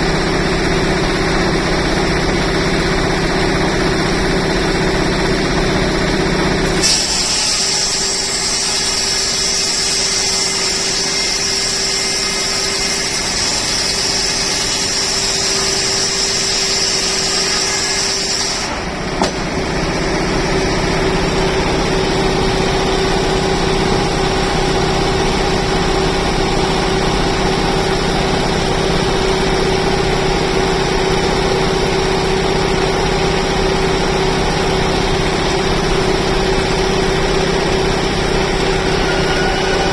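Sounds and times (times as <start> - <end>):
sawmill machinery humming: 0.0 - 39.9
higher-pitched machine sound: 0.1 - 30.4, 34.9 - 39.9.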